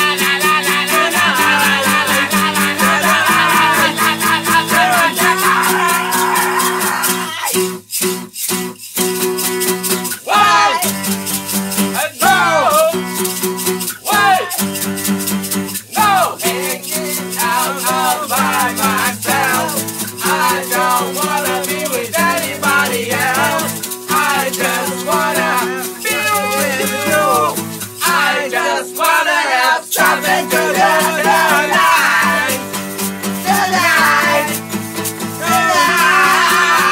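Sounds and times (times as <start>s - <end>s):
shaker-like percussion beat: 0.0s - 36.9s
song with guitar: 0.0s - 36.9s.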